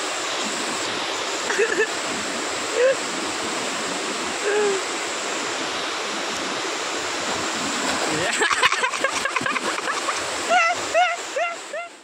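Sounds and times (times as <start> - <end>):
rushing whitewater: 0.0 - 12.0.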